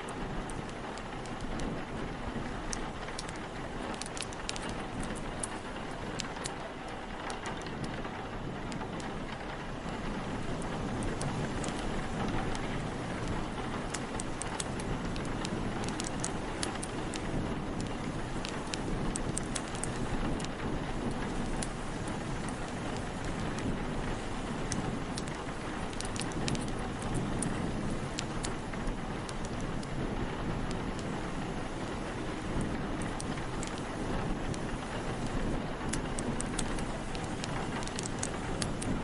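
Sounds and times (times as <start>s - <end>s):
steady rain: 0.0s - 39.0s
wind: 0.0s - 39.0s
wood fire crackling: 0.0s - 39.0s.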